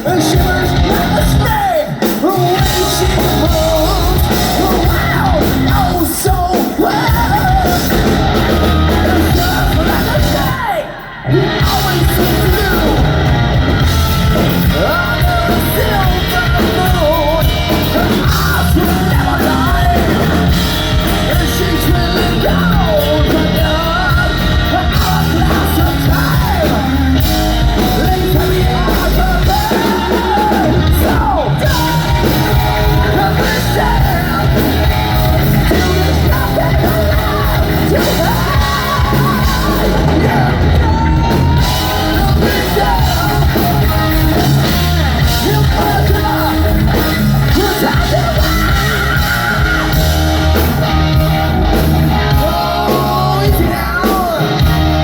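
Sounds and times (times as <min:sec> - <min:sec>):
hard rock band playing: 0:00.0 - 0:55.0
lead vocal sung and yelled: 0:00.0 - 0:55.0.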